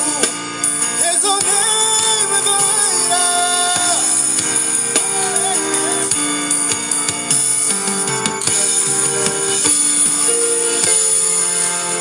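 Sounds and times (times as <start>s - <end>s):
drum kit: 0.0s - 12.0s
held keyboard chords: 0.0s - 12.0s.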